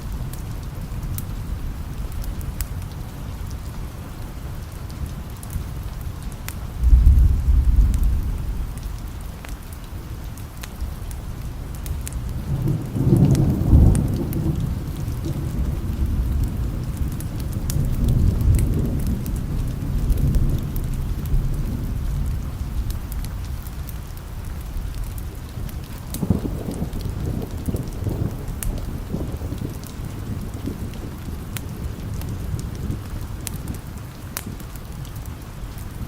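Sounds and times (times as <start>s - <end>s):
steady rain: 0.0s - 36.0s
rolling thunder: 6.6s - 36.0s.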